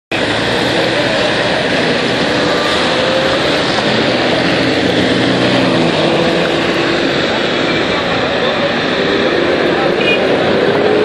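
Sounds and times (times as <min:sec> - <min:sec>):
traffic on wet road: 0:00.1 - 0:11.0.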